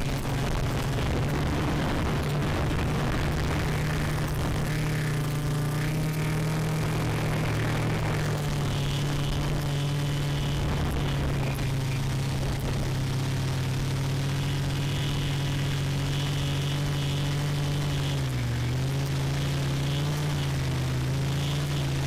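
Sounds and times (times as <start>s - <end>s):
quadcopter propellers humming: 0.0s - 22.0s.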